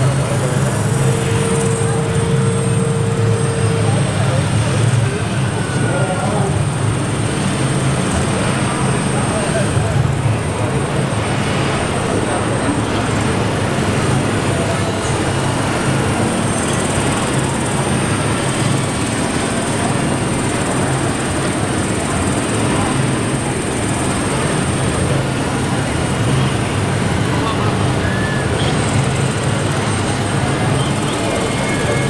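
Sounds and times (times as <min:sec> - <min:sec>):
low engine-like drone: 0:00.0 - 0:32.0
murmuring voices: 0:00.0 - 0:32.0.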